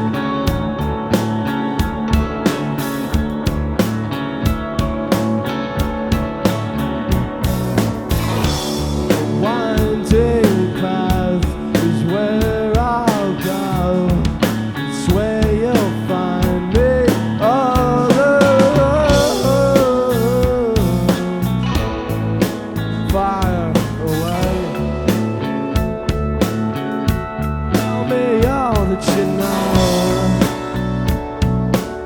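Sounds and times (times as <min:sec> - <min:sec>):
bending lead guitar melody: 0:00.0 - 0:32.0
live rock band playing: 0:00.0 - 0:32.0
drum hits: 0:01.8 - 0:13.3, 0:17.8 - 0:32.0.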